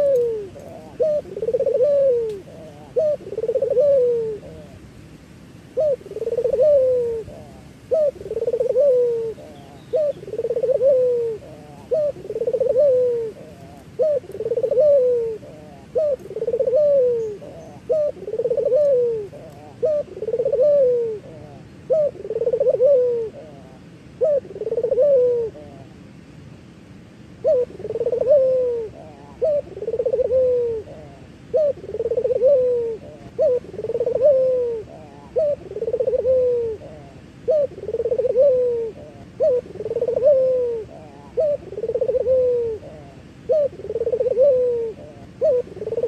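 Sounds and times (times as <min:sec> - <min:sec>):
dove cooing: 0:00.0 - 0:04.9, 0:05.7 - 0:26.0, 0:27.4 - 0:46.0.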